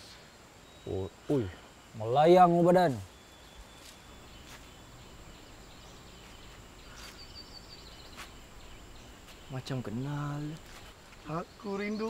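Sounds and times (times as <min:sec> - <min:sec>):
thin steady high tone: 0:00.0 - 0:10.6
low steady background hiss: 0:00.0 - 0:12.0
high bird chirp: 0:00.6 - 0:12.0.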